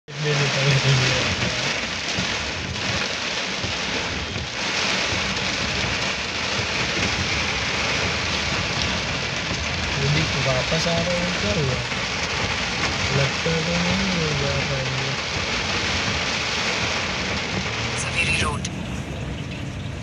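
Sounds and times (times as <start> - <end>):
heavy rain on car windshield: 0.1 - 20.0
tyres splashing through water: 0.1 - 20.0.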